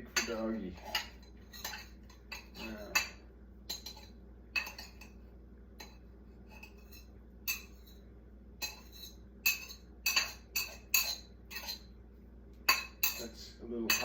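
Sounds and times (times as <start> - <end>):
metal utensil clinking on dish: 0.1 - 5.2, 5.8 - 8.0, 8.6 - 11.9, 12.7 - 14.0.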